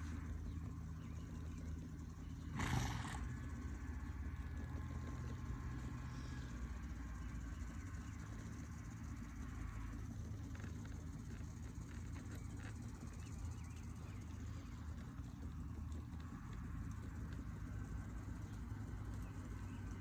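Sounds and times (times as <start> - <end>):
horse loping on sand: 0.0 - 20.0
steady low rumble: 0.0 - 20.0.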